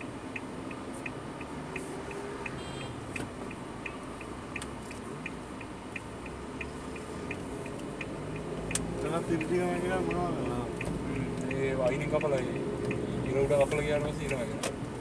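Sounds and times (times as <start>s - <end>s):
turn signal ticking: 0.0s - 15.0s.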